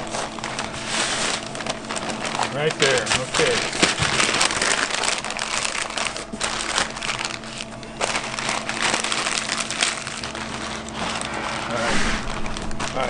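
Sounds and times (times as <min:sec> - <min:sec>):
paper crinkling and rustling: 0:00.0 - 0:13.0.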